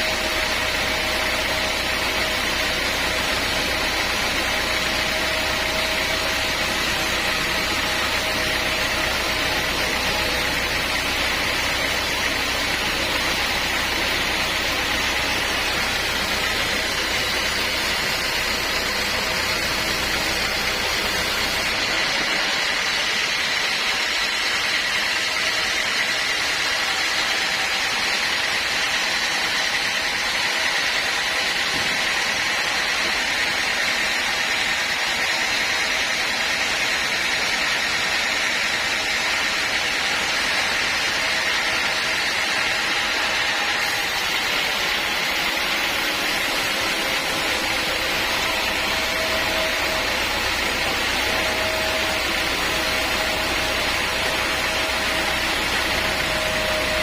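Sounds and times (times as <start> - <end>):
sawmill machinery hiss and whine: 0.0 - 57.0.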